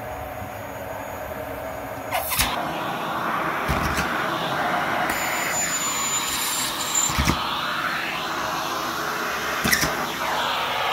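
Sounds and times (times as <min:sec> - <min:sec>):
vacuum cleaner suction: 0:02.1 - 0:10.9.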